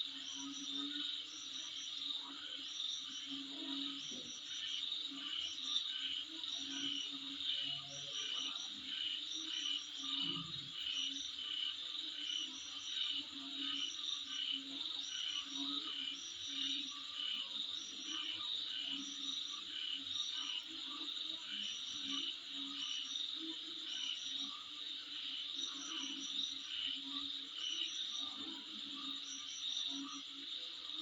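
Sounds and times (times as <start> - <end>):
insects chirping: 0.0 - 31.0
low pulsing insect call: 0.0 - 31.0.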